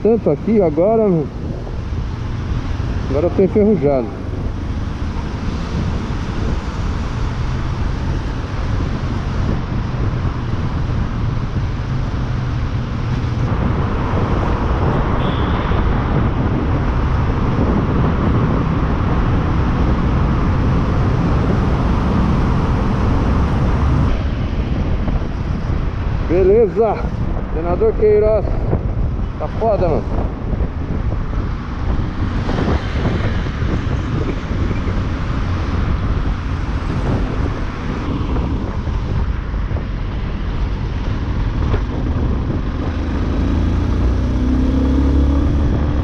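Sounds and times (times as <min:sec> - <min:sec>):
road noise: 0:00.0 - 0:46.0
wind rush on microphone: 0:00.0 - 0:46.0.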